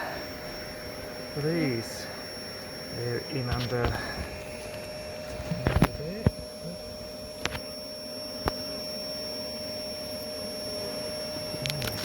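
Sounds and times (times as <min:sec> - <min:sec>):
vacuum motor humming and whining: 0:00.0 - 0:12.0.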